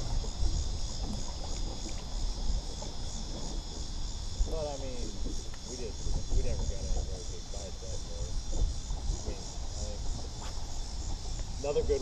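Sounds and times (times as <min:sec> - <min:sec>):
high insect chorus: 0:00.0 - 0:12.0.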